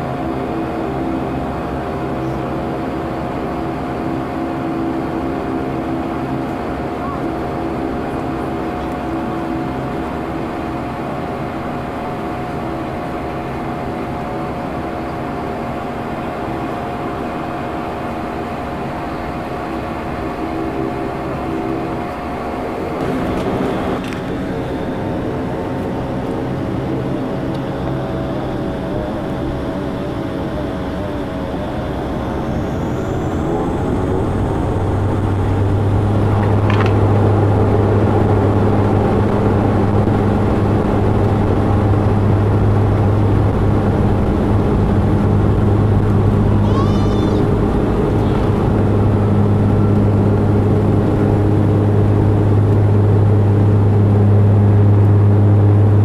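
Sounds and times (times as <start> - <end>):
faint engine whine: 0.0 - 56.0
turboprop engines droning: 0.0 - 56.0.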